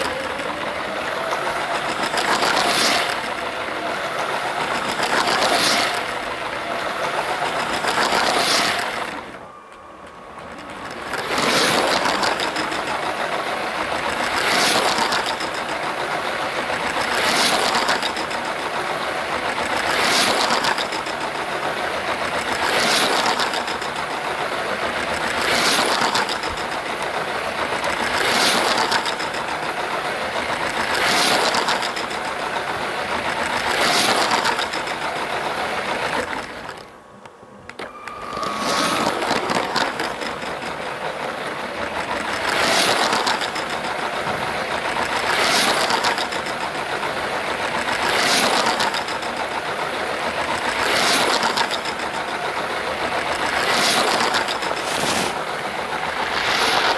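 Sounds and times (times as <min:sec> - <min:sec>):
toy train motor whirring: 0:00.0 - 0:56.9
wheels rattling over plastic track: 0:00.0 - 0:56.9.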